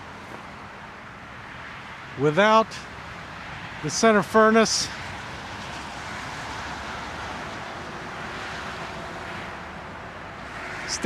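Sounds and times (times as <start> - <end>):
passing car: 0.0 - 11.0.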